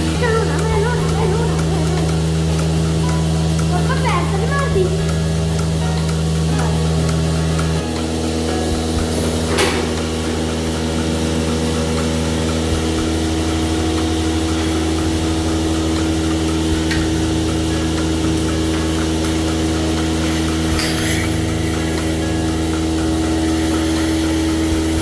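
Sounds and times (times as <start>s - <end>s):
milking machine humming: 0.0s - 25.0s
air hissing: 4.8s - 25.0s.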